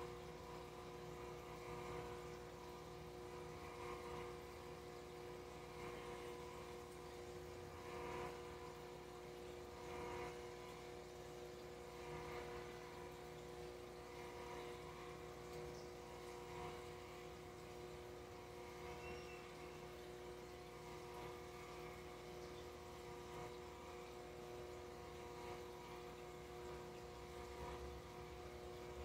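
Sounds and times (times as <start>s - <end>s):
aquarium air pump humming: 0.0s - 29.0s.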